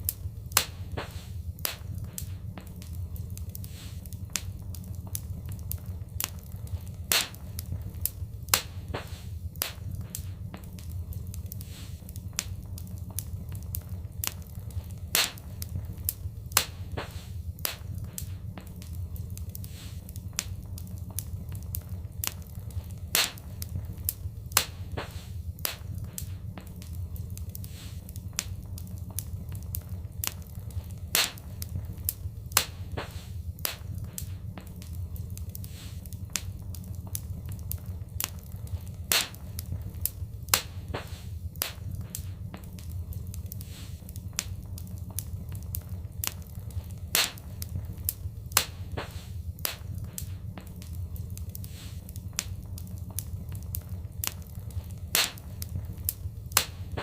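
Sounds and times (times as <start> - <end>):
fire pops and snaps: 0.0 - 57.0
low rumble of flames: 0.0 - 57.0.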